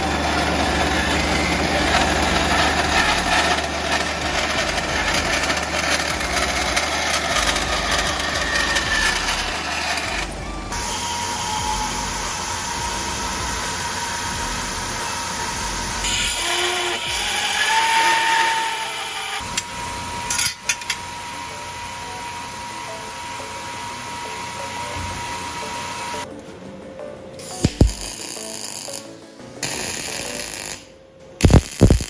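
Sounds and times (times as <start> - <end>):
power tool running: 0.0 - 26.3, 27.5 - 30.8, 31.4 - 32.0.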